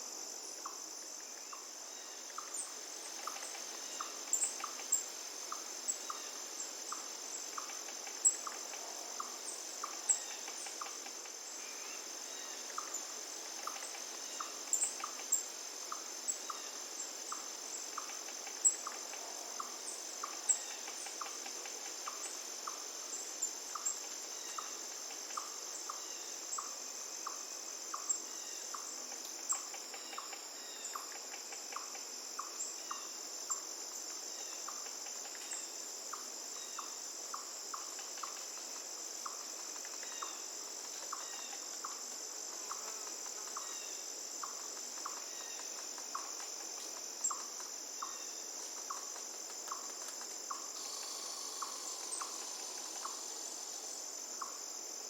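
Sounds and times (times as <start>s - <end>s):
high-pitched insect chorus: 0.0s - 55.0s
short insect chirp: 0.0s - 55.0s.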